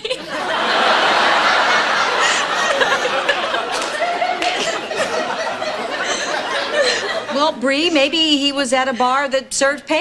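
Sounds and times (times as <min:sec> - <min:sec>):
audience laughing: 0:00.0 - 0:09.3.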